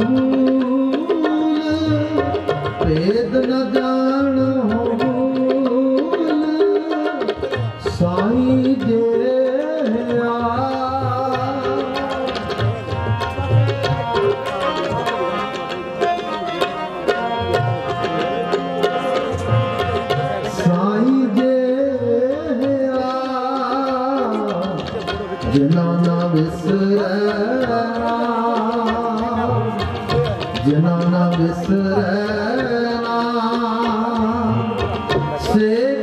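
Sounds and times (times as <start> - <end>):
harmoniums playing: 0.0 - 36.0
man singing: 0.0 - 36.0
tabla drumming: 0.0 - 36.0.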